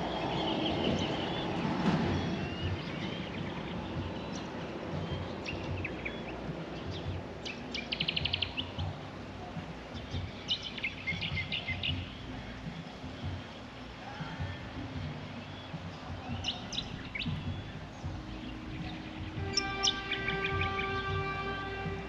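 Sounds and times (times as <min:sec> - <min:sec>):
fast bird trill: 0:00.0 - 0:09.1, 0:09.8 - 0:14.7, 0:15.3 - 0:21.8
birds chirping: 0:00.0 - 0:22.0
steady low background noise: 0:00.0 - 0:22.0.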